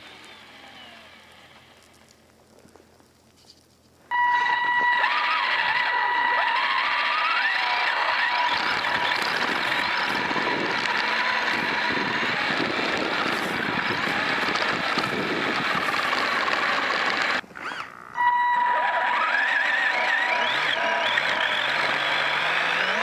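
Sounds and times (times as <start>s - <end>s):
electric motor whining: 0.0s - 2.0s, 4.1s - 23.0s.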